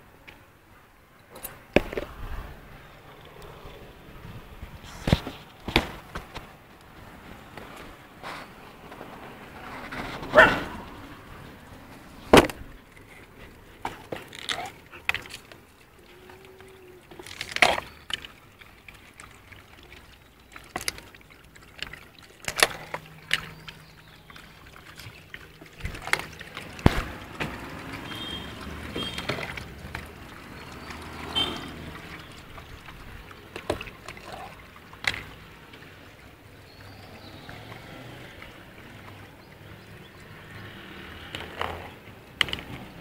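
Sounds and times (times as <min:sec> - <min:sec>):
liquid food sloshing: 0:01.2 - 0:43.0.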